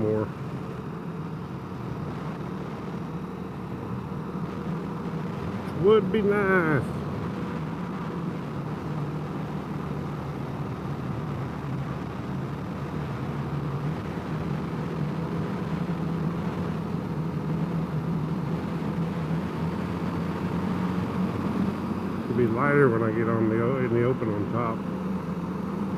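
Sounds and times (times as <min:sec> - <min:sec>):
motorcycle engine running steadily: 0:00.0 - 0:25.9.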